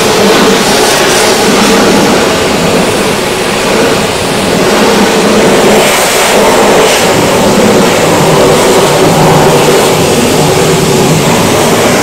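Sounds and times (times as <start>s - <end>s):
pressure washer spraying: 0.0s - 12.0s.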